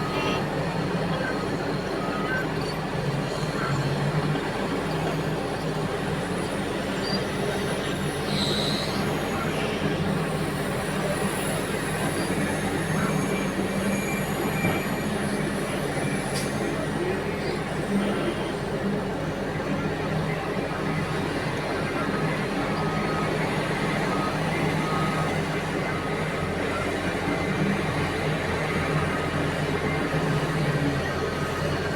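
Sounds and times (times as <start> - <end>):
heavy diesel engines running: 0.0 - 31.9.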